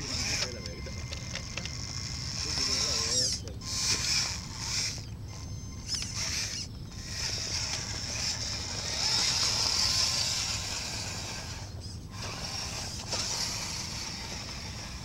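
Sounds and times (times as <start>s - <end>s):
toy truck motors whining: 0.0s - 15.0s.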